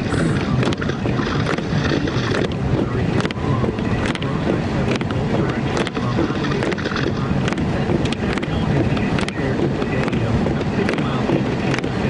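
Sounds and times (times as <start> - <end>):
engine and tyre rumble: 0.0 - 12.0
wind noise: 0.0 - 12.0.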